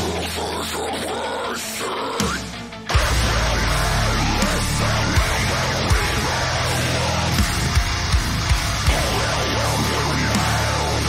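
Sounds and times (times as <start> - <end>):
heavy distorted guitars and bass: 0.0 - 11.0.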